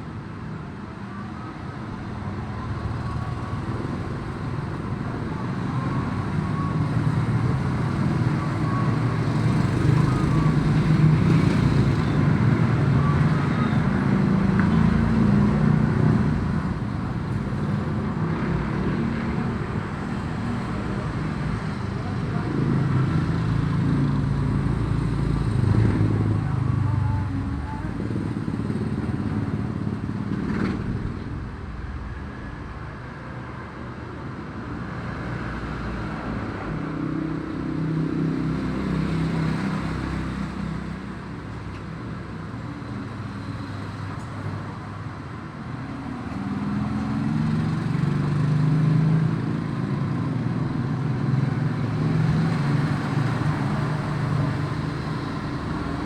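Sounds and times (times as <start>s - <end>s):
vehicle engines passing: 1.8s - 56.0s.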